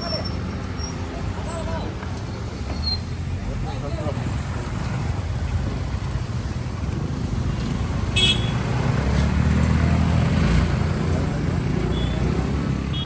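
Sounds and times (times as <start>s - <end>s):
road traffic noise: 0.0s - 13.0s
vehicle engine rumble: 0.0s - 13.0s.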